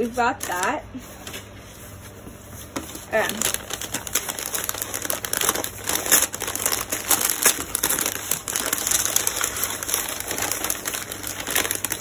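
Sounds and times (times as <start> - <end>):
wrapping paper crinkling: 1.4 - 12.0.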